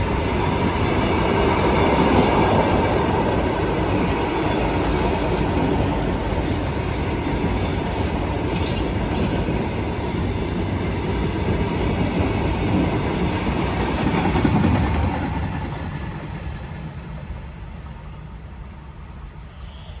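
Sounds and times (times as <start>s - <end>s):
train wagons rumbling on rails: 0.0s - 18.9s.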